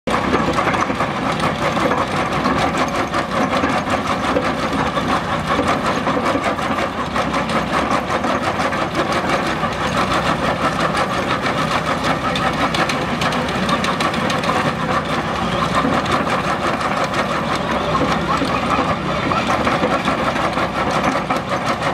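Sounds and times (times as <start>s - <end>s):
drum cutter grinding wood: 0.1s - 21.9s
excavator engine running: 0.1s - 21.9s.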